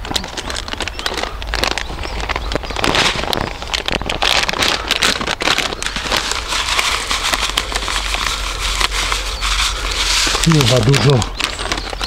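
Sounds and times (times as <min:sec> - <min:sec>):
crumbs shaken into bucket: 0:00.0 - 0:12.0
foil packet crinkling: 0:00.0 - 0:12.0.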